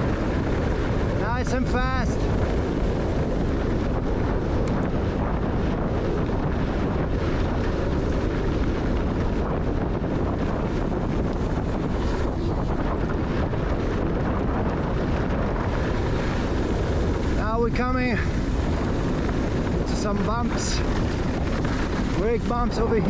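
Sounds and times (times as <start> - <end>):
bike rumbling down dirt trail: 0.0 - 23.0
wind rushing over microphone: 0.0 - 23.0.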